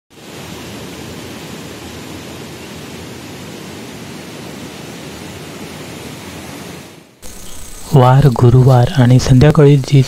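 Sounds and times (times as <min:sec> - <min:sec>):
river water rushing: 0:00.2 - 0:08.6.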